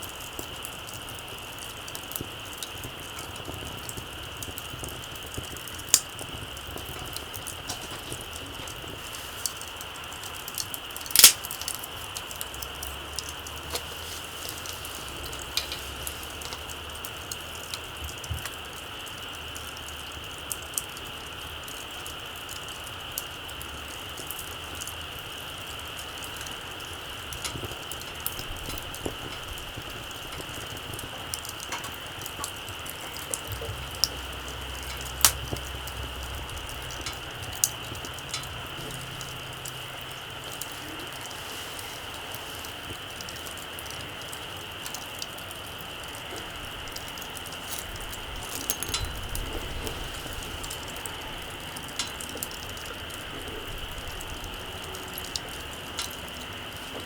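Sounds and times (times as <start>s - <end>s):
campfire crackling and popping: 0.0s - 57.0s
steady high hiss: 0.0s - 57.0s.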